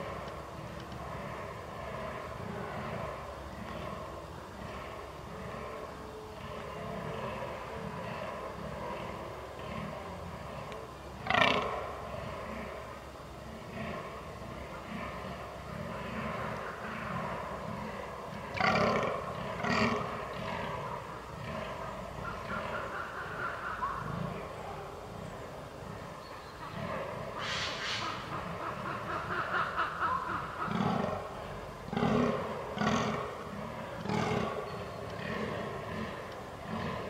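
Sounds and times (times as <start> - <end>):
deer grunting calls: 0.0 - 37.0.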